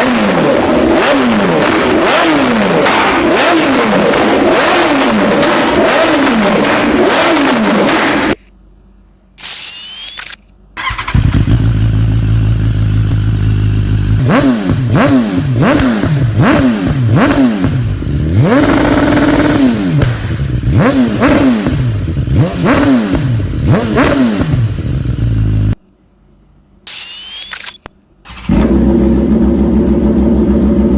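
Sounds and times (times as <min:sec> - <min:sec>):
motorcycle engine idling and revving: 0:00.0 - 0:08.4, 0:10.8 - 0:25.8, 0:28.3 - 0:30.9.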